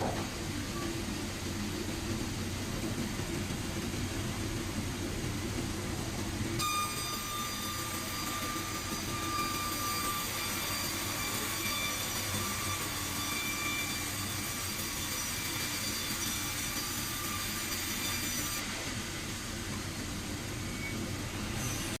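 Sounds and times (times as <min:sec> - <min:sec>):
sawmill machinery rumble: 0:00.0 - 0:22.0.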